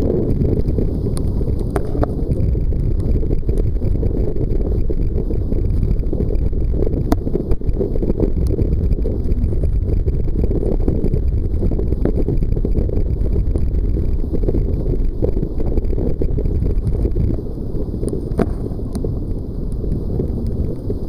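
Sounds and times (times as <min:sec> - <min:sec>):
sharp ticks: 0:00.0 - 0:21.0
wind buffeting microphone: 0:00.0 - 0:21.0.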